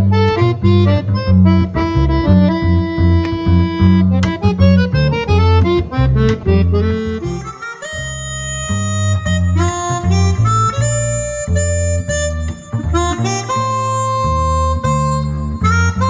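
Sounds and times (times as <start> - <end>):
button accordion melody: 0.0 - 16.0
plucked double bass: 0.0 - 16.0.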